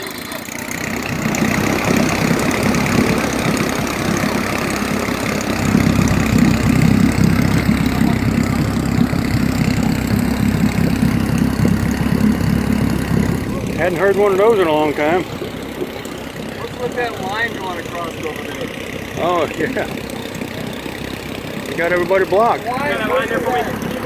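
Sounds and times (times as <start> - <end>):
outboard motor idling: 0.0 - 24.0.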